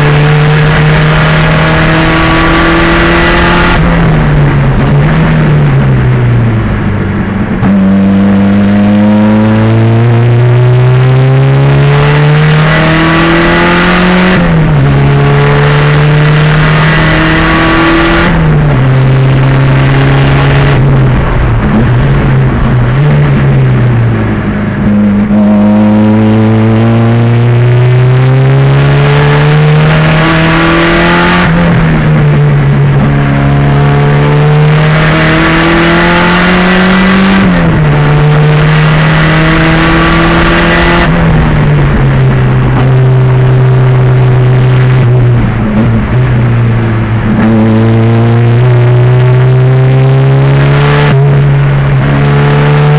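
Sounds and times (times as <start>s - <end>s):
car engine accelerating hard: 0.0s - 52.9s.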